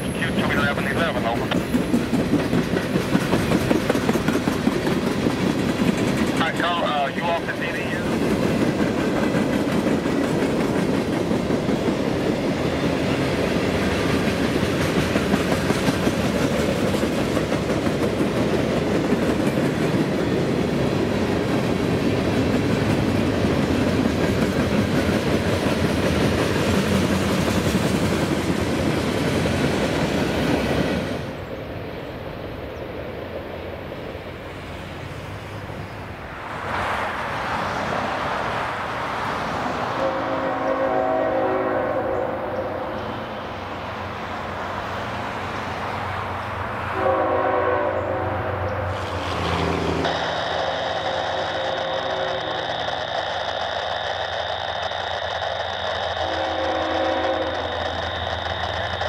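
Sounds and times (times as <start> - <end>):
approaching train: 0.0 - 59.0
train wheels rumbling on rails: 0.0 - 59.0.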